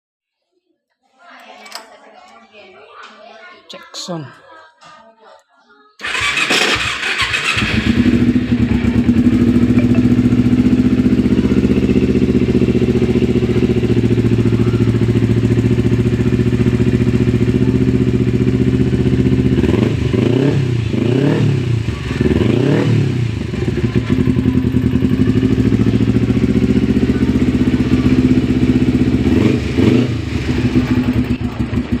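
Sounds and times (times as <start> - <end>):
motorcycle idling and revving: 6.0 - 32.0.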